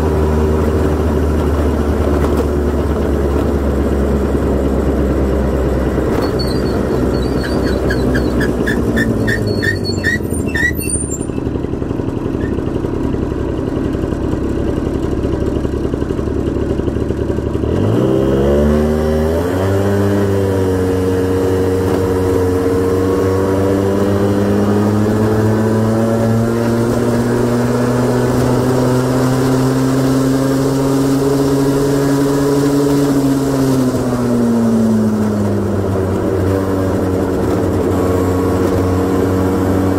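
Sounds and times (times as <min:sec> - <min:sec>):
scooter engine revving: 0:00.0 - 0:12.7, 0:16.6 - 0:39.9.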